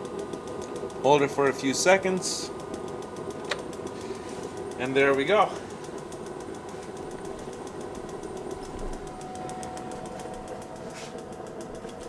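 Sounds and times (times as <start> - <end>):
faint steady whine: 0.0 - 12.0
propane heater humming and ticking: 0.0 - 12.0.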